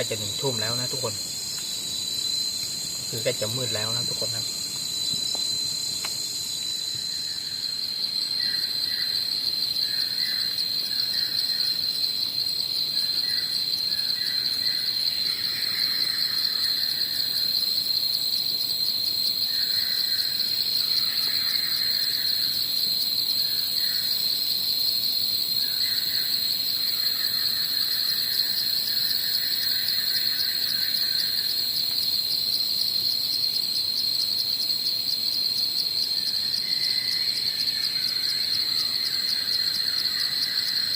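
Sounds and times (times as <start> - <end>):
insects chirping: 0.0 - 40.9
insects trilling: 0.0 - 40.9.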